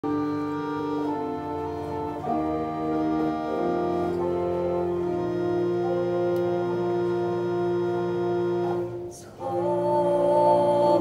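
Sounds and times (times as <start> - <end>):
church organ playing chords: 0.0 - 11.0.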